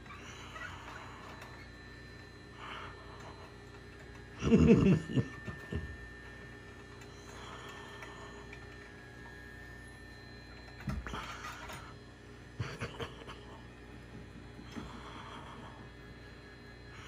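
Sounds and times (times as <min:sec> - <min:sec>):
muffled grooming dryer running: 0:00.0 - 0:17.0.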